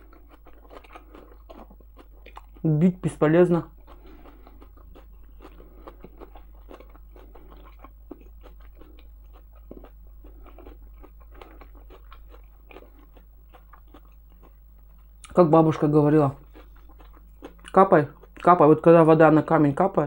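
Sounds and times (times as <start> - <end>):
person chewing food: 0.0 - 18.6.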